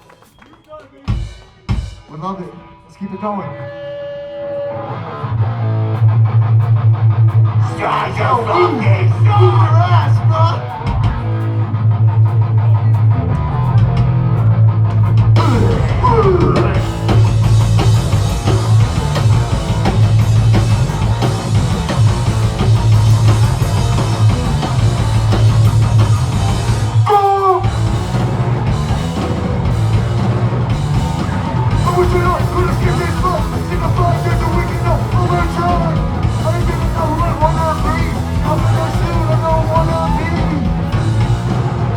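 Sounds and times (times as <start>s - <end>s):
heavy rock band playing: 1.1s - 2.4s, 3.6s - 41.9s.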